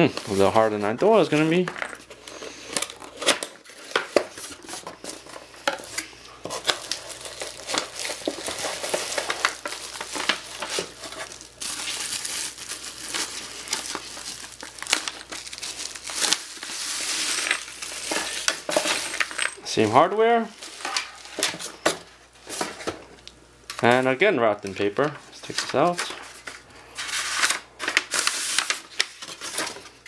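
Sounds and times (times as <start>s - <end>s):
packaging crinkling: 0.0s - 19.5s, 20.5s - 21.7s, 24.9s - 30.0s.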